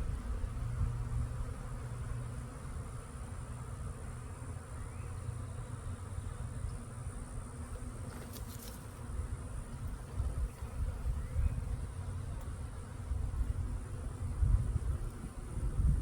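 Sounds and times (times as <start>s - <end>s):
honeybee swarm buzzing: 0.0s - 16.0s.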